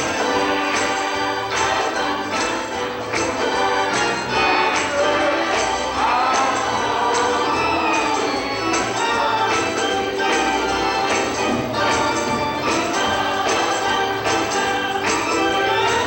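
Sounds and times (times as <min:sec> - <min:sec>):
gospel choir singing: 0:00.0 - 0:16.0
percussion steady beat: 0:00.0 - 0:16.0.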